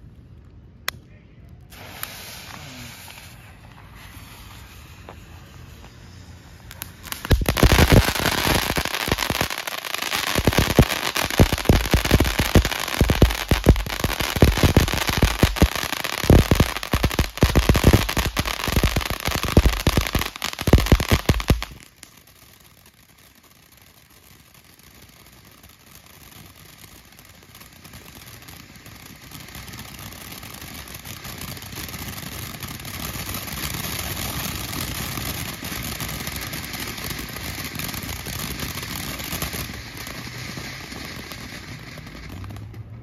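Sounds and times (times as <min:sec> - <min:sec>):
firework fountain hissing: 0:01.6 - 0:42.8.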